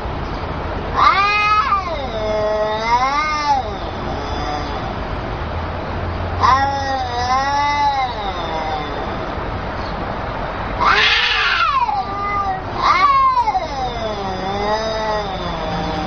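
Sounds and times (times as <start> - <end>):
cats yowling: 0.9 - 5.3, 6.2 - 16.0
cat wailing high: 1.0 - 5.2, 6.4 - 10.0, 10.6 - 16.0.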